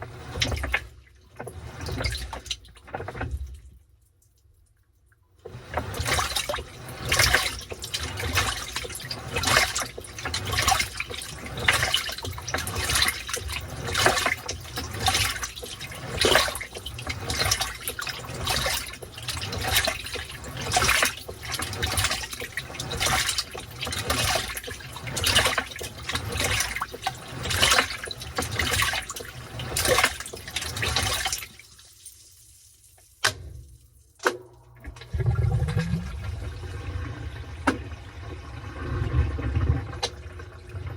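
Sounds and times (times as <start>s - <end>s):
washing machine sloshing: 0.0s - 4.4s, 5.3s - 40.9s.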